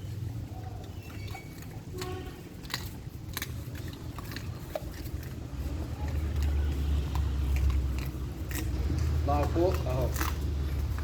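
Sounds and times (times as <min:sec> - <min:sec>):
dogs chewing and crunching: 0:00.0 - 0:11.0.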